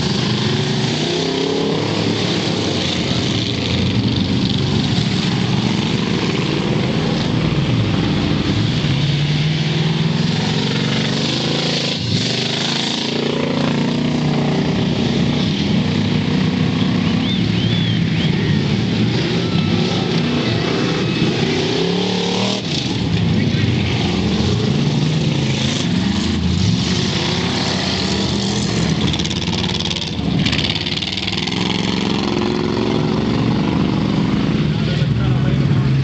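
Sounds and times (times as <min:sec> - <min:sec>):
racing car engines: 0:00.0 - 0:36.0.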